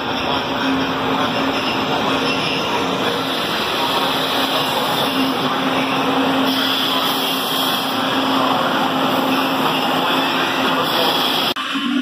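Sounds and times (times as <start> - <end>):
electric locomotive passing: 0.0 - 12.0.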